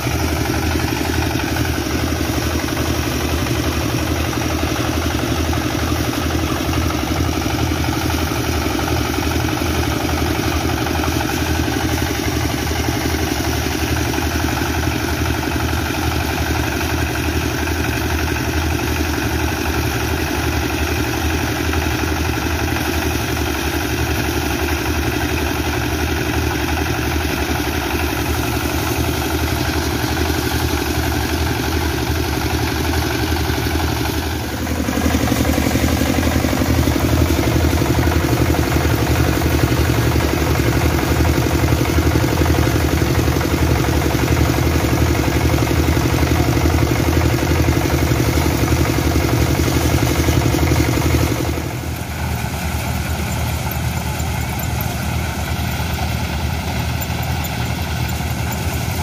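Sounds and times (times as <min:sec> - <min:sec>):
diesel engine running: 0:00.0 - 0:59.0
thresher drum rattling: 0:00.0 - 0:59.0.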